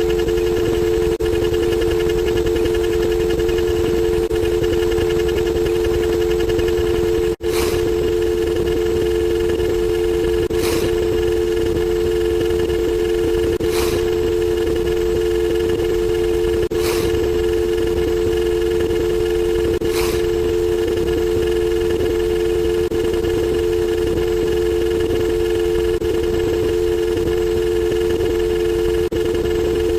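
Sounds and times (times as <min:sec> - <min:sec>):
telephone dial tone: 0:00.0 - 0:29.9.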